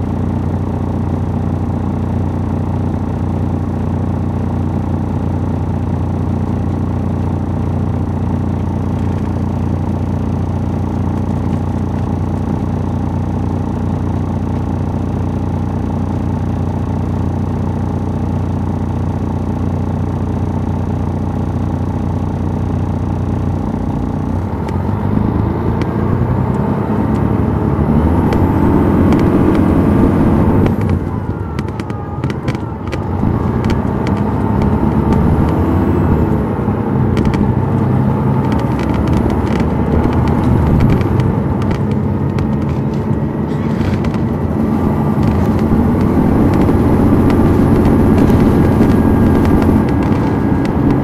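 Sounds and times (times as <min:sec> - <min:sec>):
diesel bus engine running: 0:00.0 - 0:51.0.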